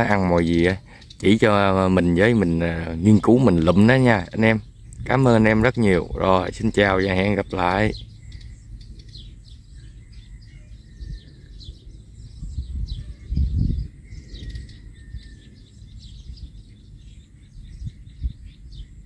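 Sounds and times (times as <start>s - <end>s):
small birds chirping: 0.0s - 19.0s
low rumble: 1.4s - 19.0s.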